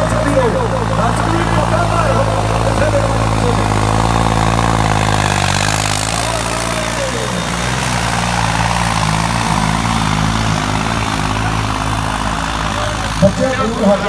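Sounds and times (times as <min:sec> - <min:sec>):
crowd hum: 0:00.0 - 0:14.0
tractor engine idling: 0:00.0 - 0:14.0.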